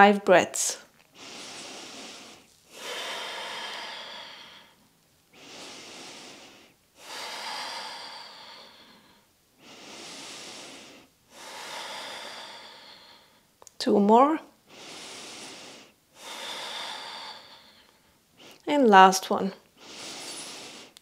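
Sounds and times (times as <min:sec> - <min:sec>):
woman breathing deeply: 0:01.1 - 0:13.6, 0:14.6 - 0:18.6, 0:19.7 - 0:21.0.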